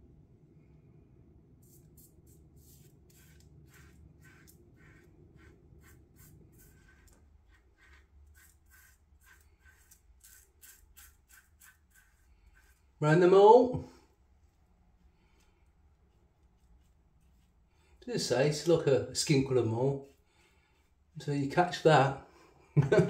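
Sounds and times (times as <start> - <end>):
razor scraping stubble: 1.6 - 13.2, 14.4 - 21.9.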